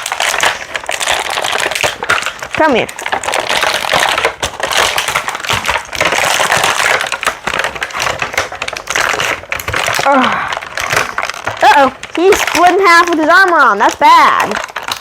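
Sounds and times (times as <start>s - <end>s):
plastic packaging crackling: 0.0s - 15.0s.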